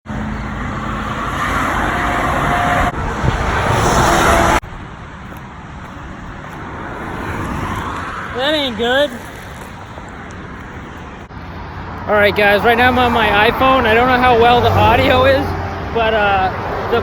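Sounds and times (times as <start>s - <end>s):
highway traffic: 0.0s - 17.0s.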